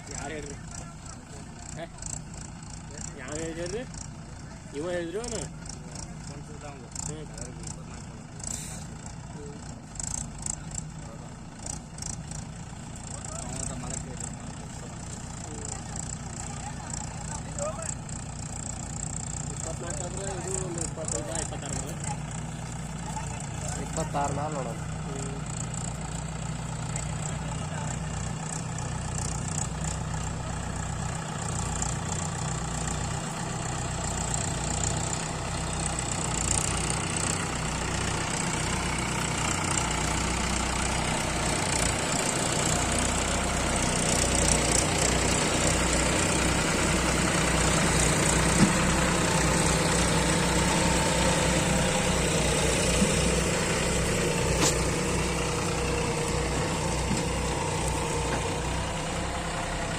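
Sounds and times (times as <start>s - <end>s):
diesel tractor engine under load: 0.0s - 59.9s.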